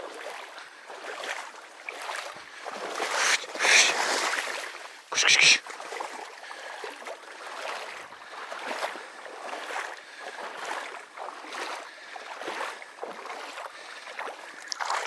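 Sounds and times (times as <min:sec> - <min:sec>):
footsteps wading through water: 0:00.0 - 0:15.0.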